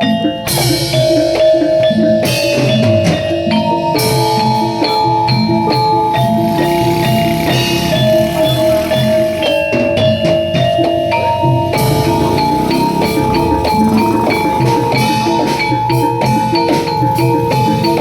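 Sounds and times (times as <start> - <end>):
gamelan metal instruments and drums: 0.0 - 18.0.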